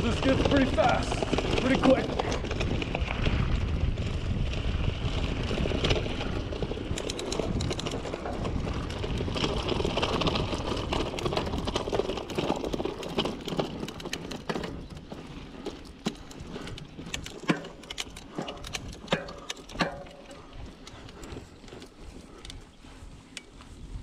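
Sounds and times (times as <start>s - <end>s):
bike rattling and clicking: 0.0s - 24.0s
tyres on dirt and stones: 0.0s - 24.0s
wind rumbling on microphone: 0.0s - 24.0s.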